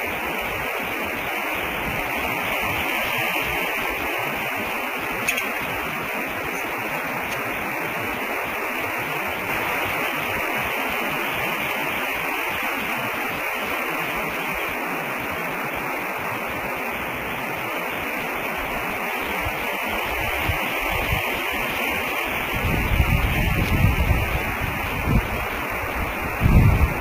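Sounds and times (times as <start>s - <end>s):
static hiss: 0.0s - 27.0s.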